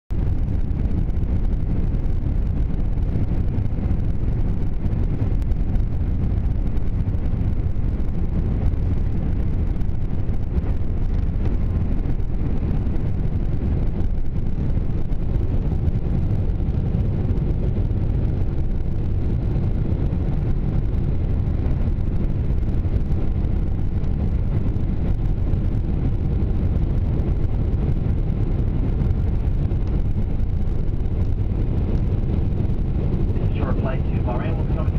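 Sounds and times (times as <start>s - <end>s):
jet engines rumbling in cabin: 0.1s - 34.9s.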